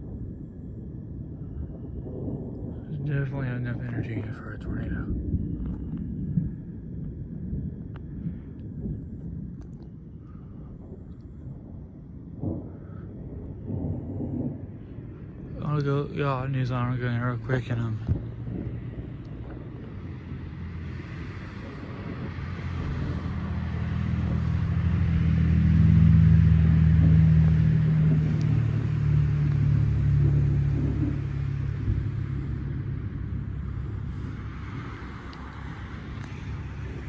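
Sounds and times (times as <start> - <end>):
deep rumble: 0.0 - 37.0.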